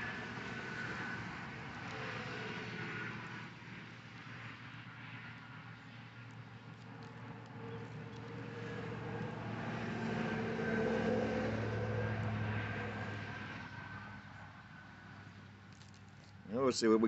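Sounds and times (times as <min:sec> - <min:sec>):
vehicle engine passing by: 0:00.0 - 0:06.2, 0:06.8 - 0:16.0.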